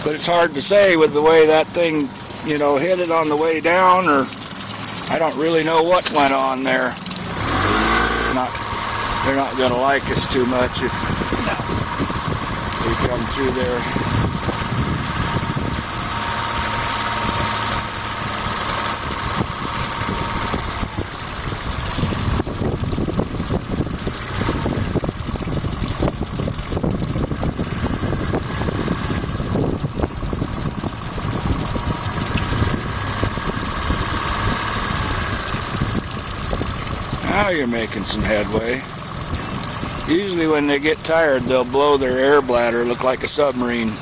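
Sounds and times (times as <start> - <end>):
boat motor idling: 0.0 - 44.0.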